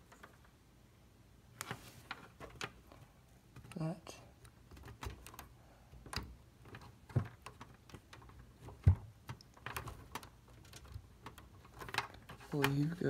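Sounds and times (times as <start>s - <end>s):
clicks and knocks of handled parts: 0.0s - 0.6s, 1.6s - 13.0s.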